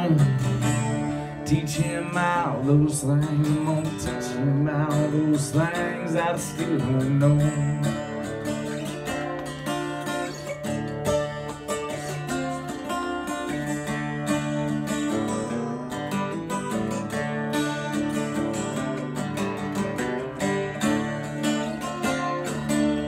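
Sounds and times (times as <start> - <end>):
country music with strummed guitar: 0.0 - 23.0.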